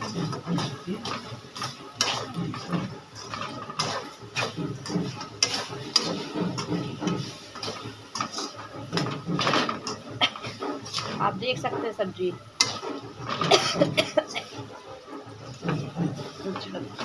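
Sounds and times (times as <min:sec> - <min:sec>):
spoon scraping metal pan: 0:00.0 - 0:17.0.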